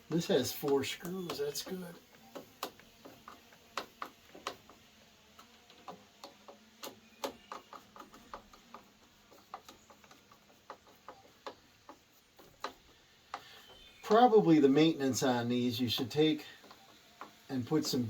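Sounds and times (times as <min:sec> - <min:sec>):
light clicks and taps: 0:00.0 - 0:18.0.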